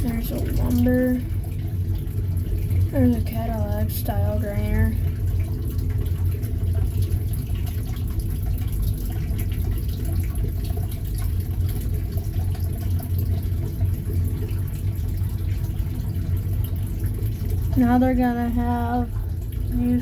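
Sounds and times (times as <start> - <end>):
filter low hum: 0.0 - 20.0
water trickling and splashing: 0.0 - 20.0.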